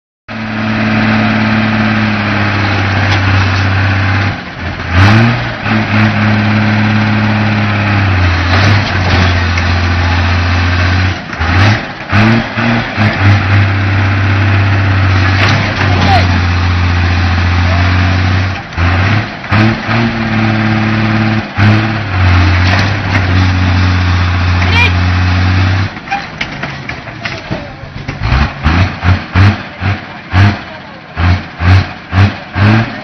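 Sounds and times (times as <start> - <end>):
diesel engine revving under load: 0.3 - 33.0.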